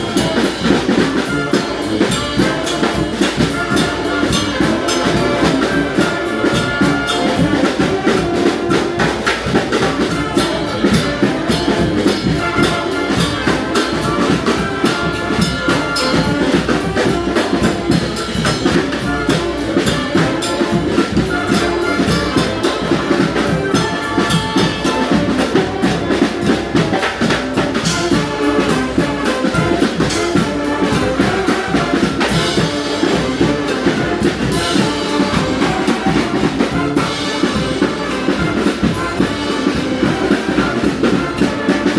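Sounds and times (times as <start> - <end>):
brass horns playing: 0.0 - 41.9
drum beat: 0.0 - 41.9.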